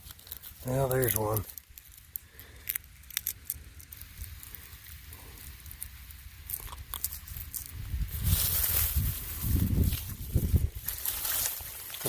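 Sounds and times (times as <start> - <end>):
dry stubble crackling: 0.0 - 12.0.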